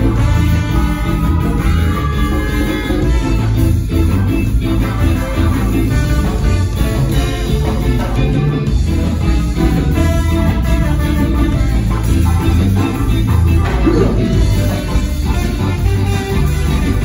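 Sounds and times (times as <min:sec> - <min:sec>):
electric guitar: 0:00.0 - 0:17.0
saxophone: 0:00.0 - 0:17.0
ska jazz band playing: 0:00.0 - 0:17.0
trombone: 0:00.0 - 0:17.0.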